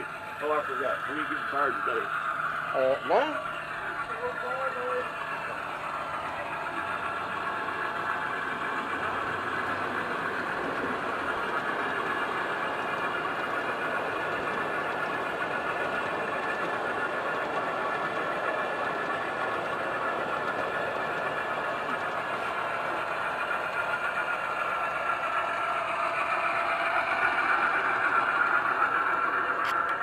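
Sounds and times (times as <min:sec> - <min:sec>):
steady mechanical running noise: 0:00.0 - 0:30.0.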